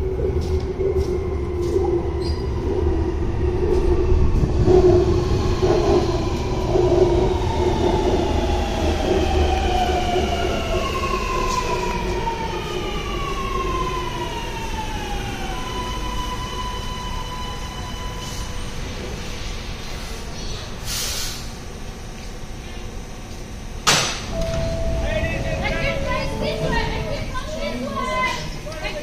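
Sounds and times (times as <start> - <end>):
low train rumble: 0.0 - 29.0.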